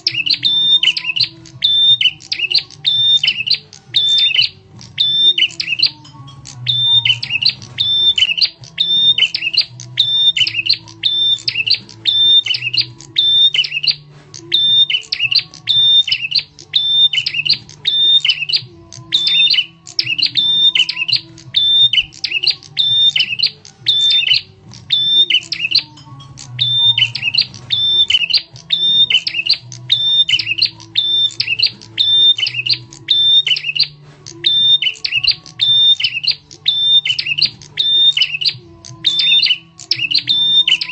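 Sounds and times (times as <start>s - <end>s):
bird chattering call: 0.0s - 40.9s.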